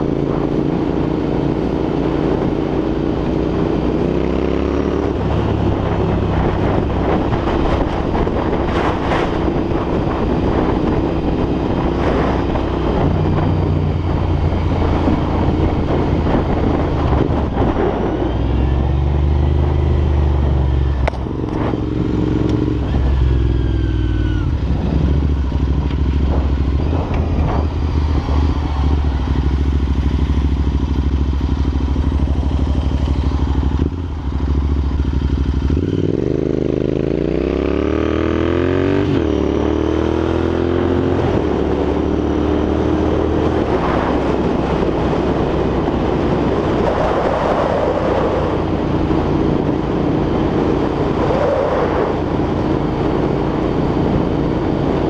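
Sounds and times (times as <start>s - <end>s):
motorcycle engine revving: 0.0s - 55.0s
wind on microphone: 0.0s - 55.0s.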